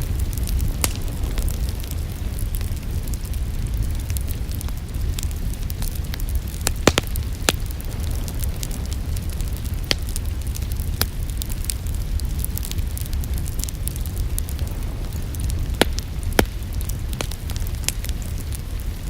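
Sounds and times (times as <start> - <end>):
fire pops: 0.0 - 19.0
wood fire crackling: 0.0 - 19.0.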